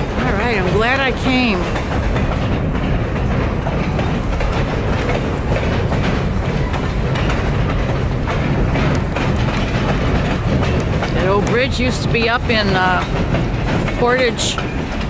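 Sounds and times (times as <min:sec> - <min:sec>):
train cars rolling across bridge: 0:00.0 - 0:15.0
wheels clicking: 0:00.0 - 0:15.0.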